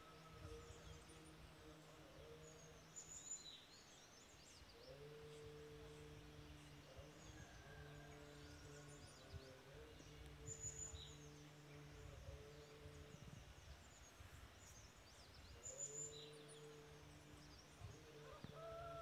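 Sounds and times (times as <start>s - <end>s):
low droning voice chanting: 0.0s - 19.0s.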